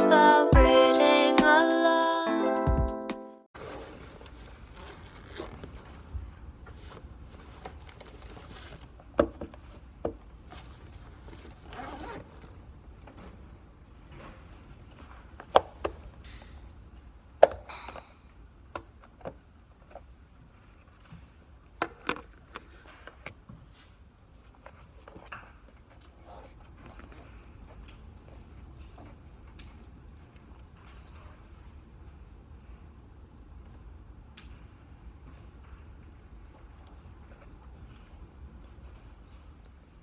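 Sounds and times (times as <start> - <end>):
faint room hum: 3.6 - 40.0.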